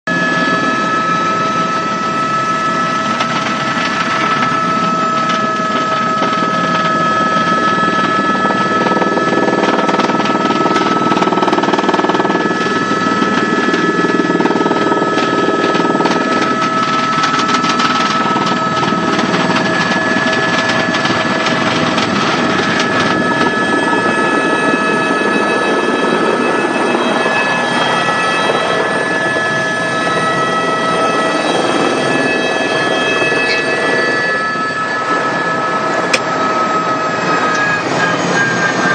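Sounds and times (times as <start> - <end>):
high whine: 0.1 - 38.9.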